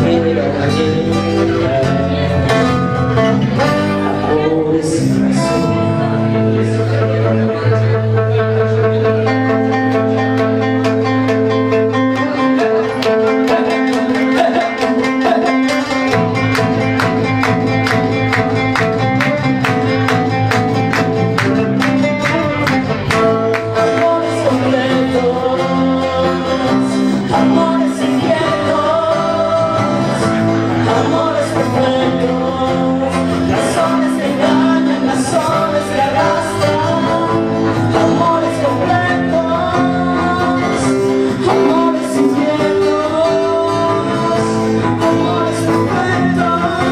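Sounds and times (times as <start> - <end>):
acoustic guitars strumming: 0.0 - 46.9
bass line: 0.0 - 46.9
man singing: 0.0 - 46.9.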